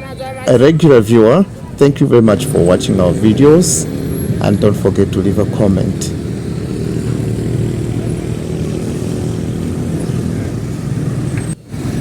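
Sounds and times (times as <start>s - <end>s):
road traffic: 0.0s - 12.0s
vehicle engine running: 1.5s - 12.0s.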